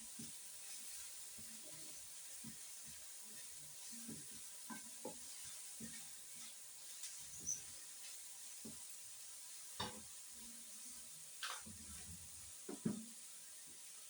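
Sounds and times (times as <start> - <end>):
food sizzling in frying pan: 0.0 - 14.0.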